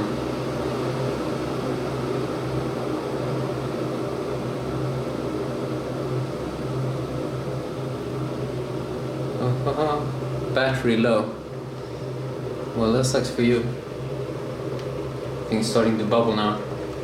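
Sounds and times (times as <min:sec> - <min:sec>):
water heater humming: 0:00.0 - 0:17.0.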